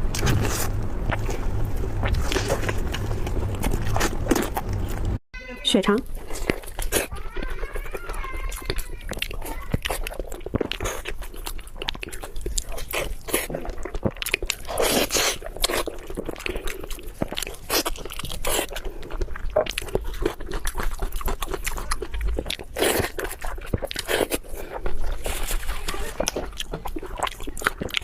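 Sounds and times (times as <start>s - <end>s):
chewing and biting food: 0.0s - 5.2s, 6.0s - 28.0s.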